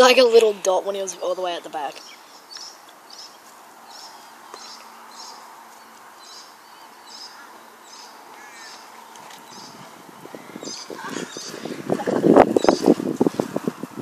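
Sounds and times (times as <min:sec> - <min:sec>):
bird chirping: 0:00.0 - 0:13.1
faint outdoor background: 0:00.0 - 0:14.0.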